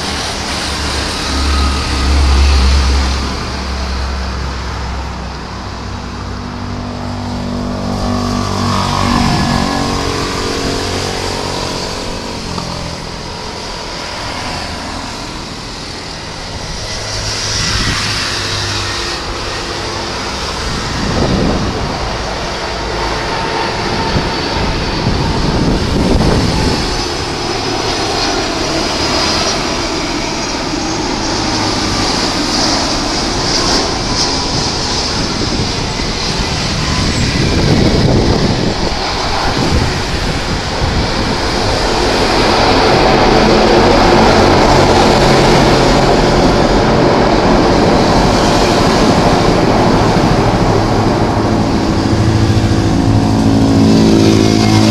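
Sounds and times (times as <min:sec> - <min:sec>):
faint high jet whine: 0:00.0 - 0:54.9
jet engine roar: 0:00.0 - 0:54.9.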